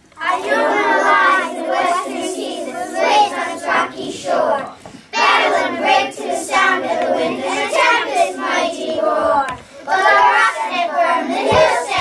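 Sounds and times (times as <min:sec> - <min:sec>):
children singing in unison: 0:00.1 - 0:12.0.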